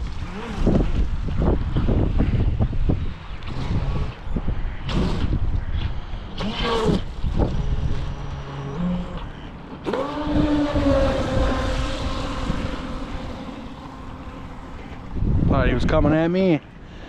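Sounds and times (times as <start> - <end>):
electric motor whining: 0.0 - 15.5
wind buffeting microphone: 0.0 - 16.9.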